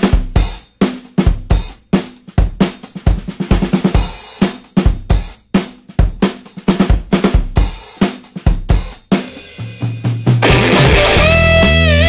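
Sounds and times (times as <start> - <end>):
rock drum beat: 0.0 - 12.0.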